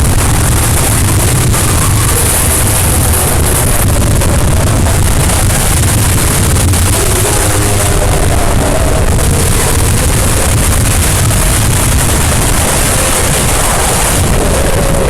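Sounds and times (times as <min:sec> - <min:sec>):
distorted noise: 0:00.0 - 0:15.0
faint wavering tones: 0:00.0 - 0:15.0.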